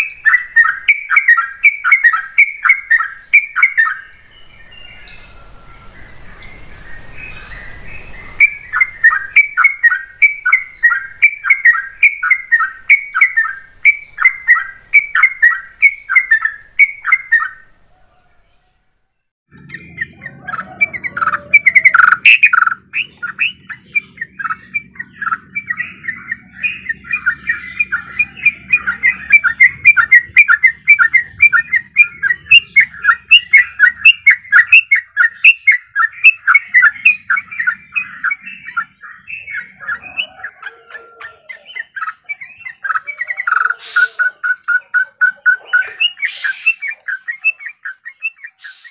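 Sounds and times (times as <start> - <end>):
bulbul singing rolling song: 0.0 - 48.9.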